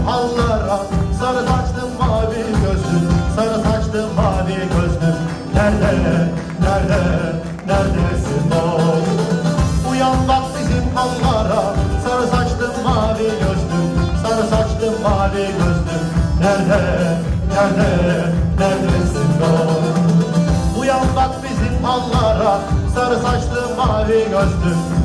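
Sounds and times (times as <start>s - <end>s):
folk band playing through a pa: 0.0s - 25.0s
man singing: 0.0s - 25.0s.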